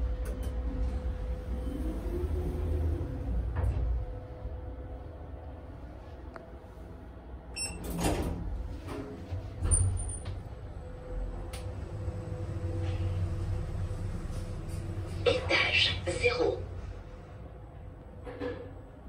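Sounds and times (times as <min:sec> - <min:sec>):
elevator low rumble: 0:00.0 - 0:19.0.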